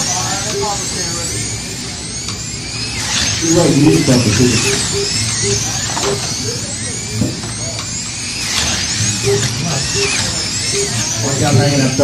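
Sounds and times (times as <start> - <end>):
slot car motors whining: 0.0 - 12.0.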